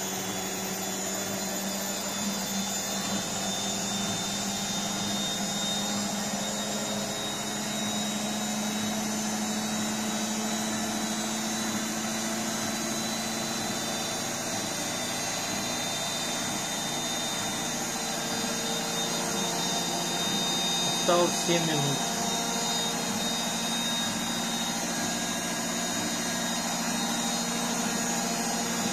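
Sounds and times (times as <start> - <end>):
motor hum and high whine: 0.0 - 28.9
washing machine spinning: 0.0 - 28.9.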